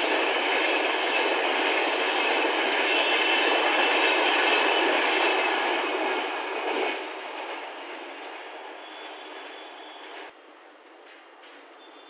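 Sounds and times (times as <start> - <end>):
train coaches passing on track: 0.0 - 12.0.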